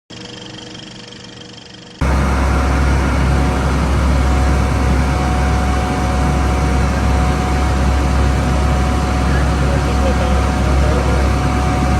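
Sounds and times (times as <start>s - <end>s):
boat engine droning: 0.1s - 11.9s
engine whine: 0.1s - 11.9s.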